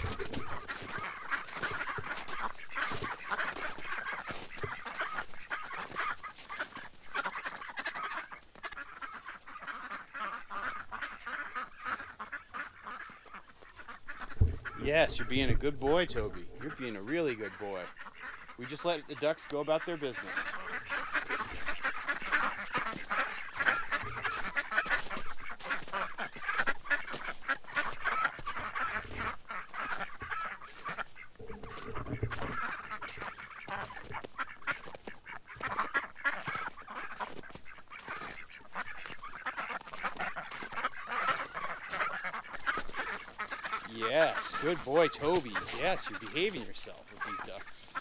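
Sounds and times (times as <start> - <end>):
ducks quacking: 0.0 - 48.0.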